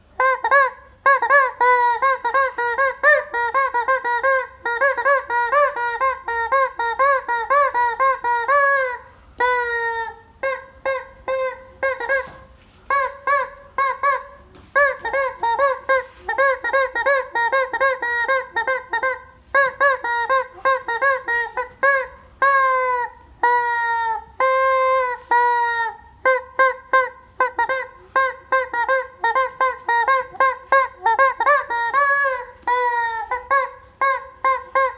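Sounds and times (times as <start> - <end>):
rubber chicken toy squawking: 0.1 - 34.9.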